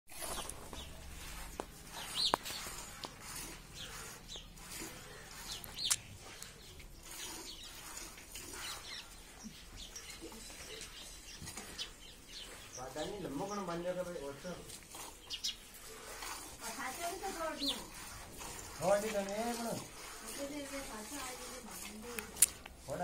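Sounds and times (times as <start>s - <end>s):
birds chirping: 0.2s - 23.0s.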